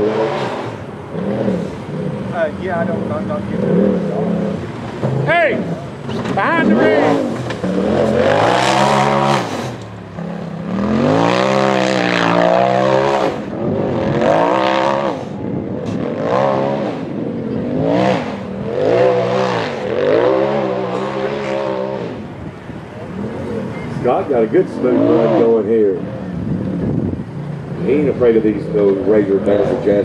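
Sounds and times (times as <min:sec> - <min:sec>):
race engine revving hard: 0:00.0 - 0:22.4, 0:23.0 - 0:30.0.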